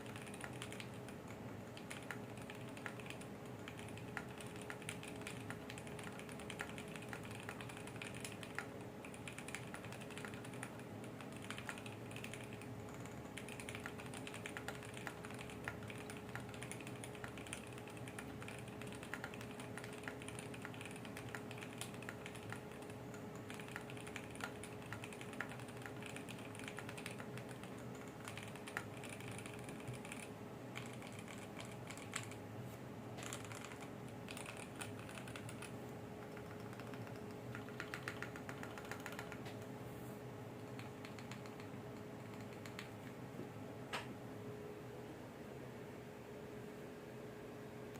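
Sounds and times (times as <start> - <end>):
mechanical keyboard typing: 0.0 - 32.4, 33.2 - 39.7, 40.6 - 43.1
faint steady hum: 0.0 - 47.9.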